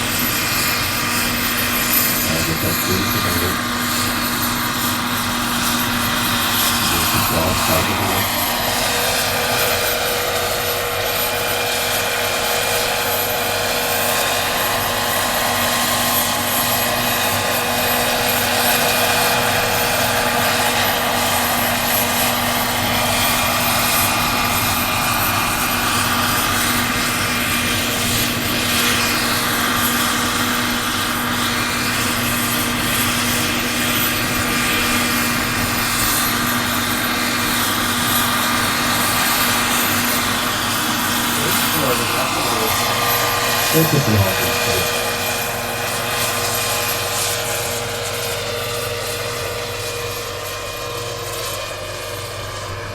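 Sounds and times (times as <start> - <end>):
helicopter rotor chop: 0.0 - 52.9
high turbine whine: 0.0 - 52.9.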